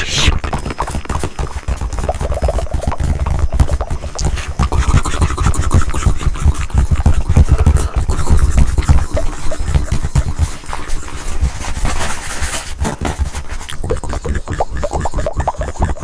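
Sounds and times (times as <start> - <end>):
tongue clicking mouth sounds: 0.0 - 11.5, 12.8 - 16.0.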